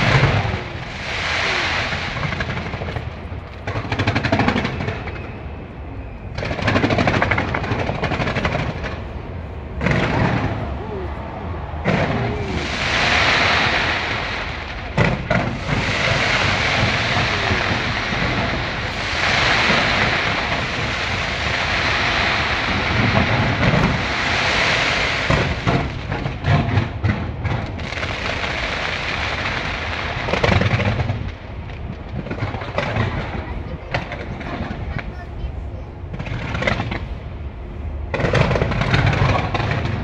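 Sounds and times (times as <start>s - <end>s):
fireworks crackling: 0.0s - 35.5s, 36.1s - 37.2s, 38.1s - 40.0s
fireworks bangs and booms: 0.0s - 37.3s, 38.1s - 40.0s.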